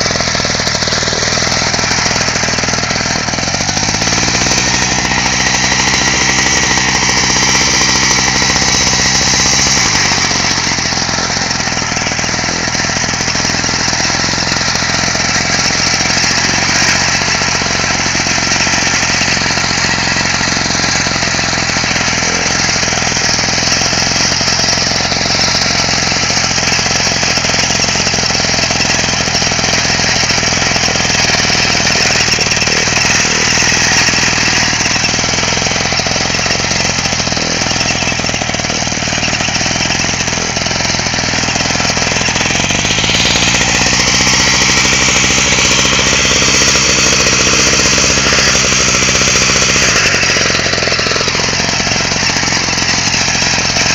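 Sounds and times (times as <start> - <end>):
mower engine running under load: 0.0 - 53.9.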